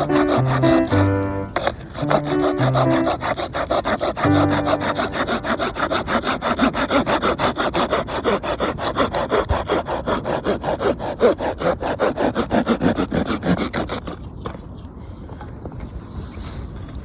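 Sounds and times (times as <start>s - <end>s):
hand saw cutting wood: 0.0s - 14.2s.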